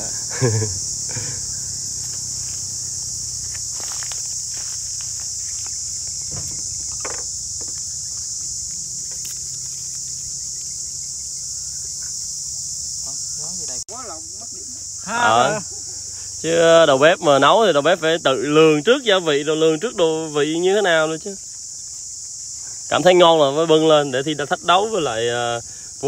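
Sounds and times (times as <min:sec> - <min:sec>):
insects shrilling: 0:00.0 - 0:26.0.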